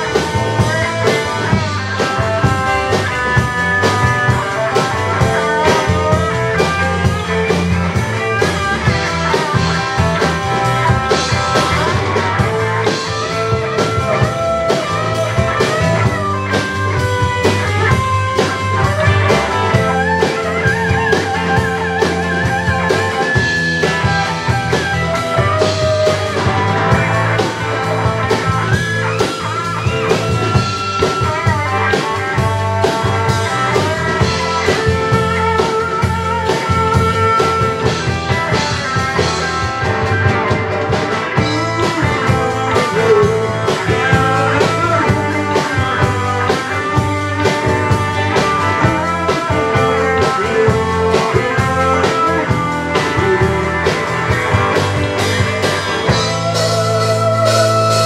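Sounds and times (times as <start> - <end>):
bass guitar: 0.0 - 58.0
drum kit: 0.0 - 58.0
electric guitar lead: 0.0 - 58.0
rhythm guitar: 0.0 - 58.0.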